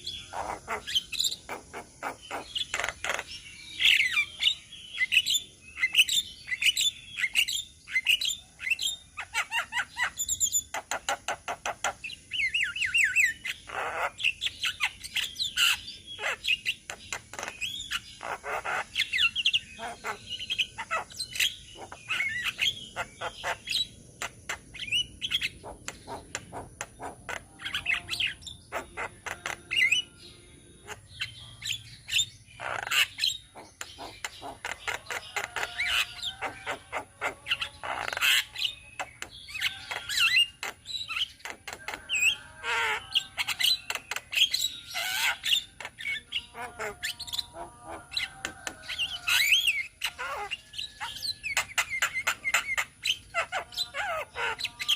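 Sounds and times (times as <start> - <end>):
flock of birds chattering: 0.0 - 54.9.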